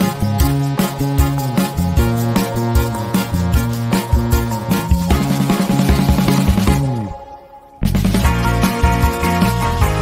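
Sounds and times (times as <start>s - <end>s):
upbeat synth music: 0.0s - 10.0s.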